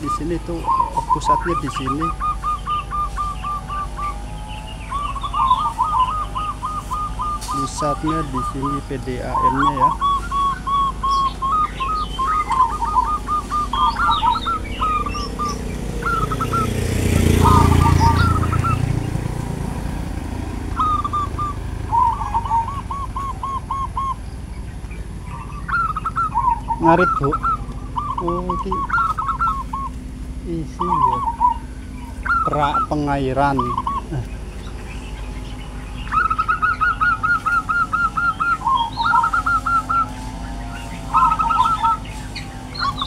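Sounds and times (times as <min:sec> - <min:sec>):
bird calling short notes: 0:00.0 - 0:19.4, 0:20.3 - 0:43.0
motorcycle passing: 0:00.0 - 0:43.0.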